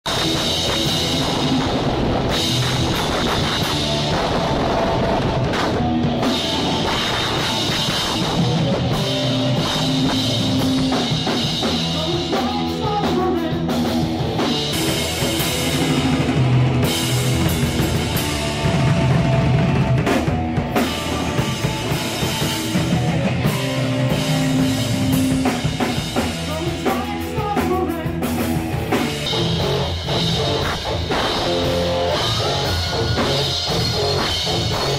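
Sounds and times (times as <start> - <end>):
drum kit: 0.0 - 34.9
loud rock band playing: 0.0 - 34.9.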